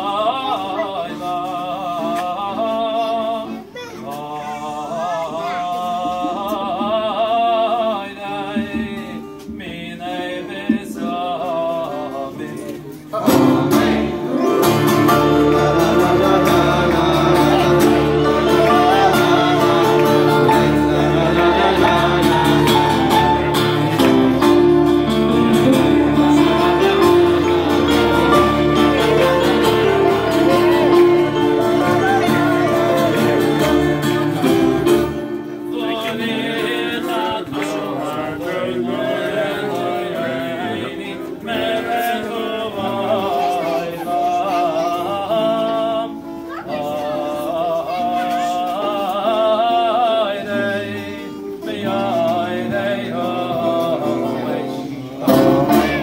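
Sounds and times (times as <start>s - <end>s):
keyboard and acoustic guitar: 0.0s - 56.0s
men singing: 0.0s - 56.0s.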